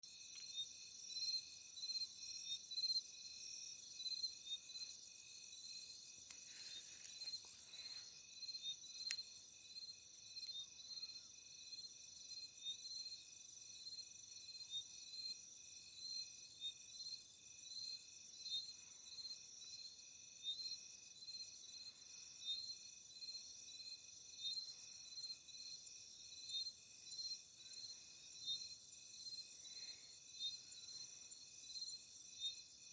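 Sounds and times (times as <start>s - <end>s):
crickets chirping: 0.1s - 32.9s.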